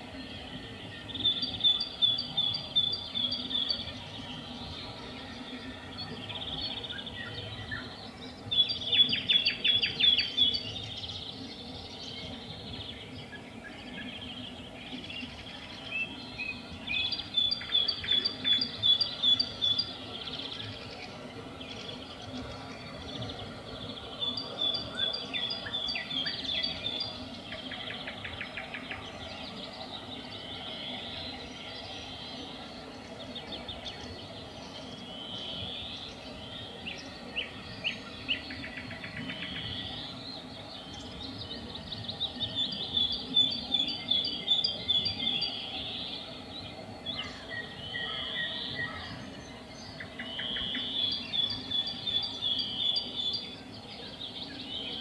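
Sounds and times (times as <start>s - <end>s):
low background hiss: 0.0s - 55.0s
nightingale singing: 0.2s - 21.0s, 21.6s - 55.0s.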